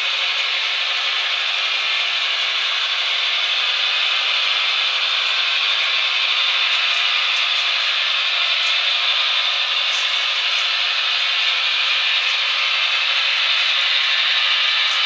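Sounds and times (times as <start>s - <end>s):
model train wheels hissing on rails: 0.0s - 15.0s.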